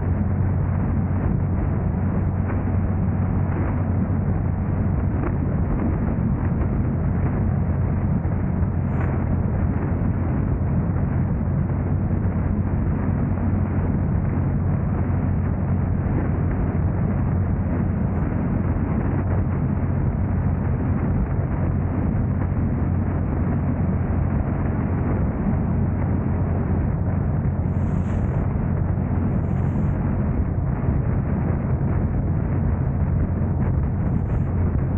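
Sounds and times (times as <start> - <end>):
car road noise rumble: 0.0 - 34.9.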